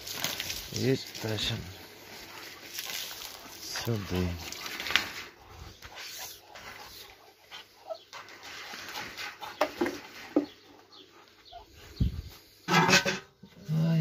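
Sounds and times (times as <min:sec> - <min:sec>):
poultry clucking: 0:02.1 - 0:13.5.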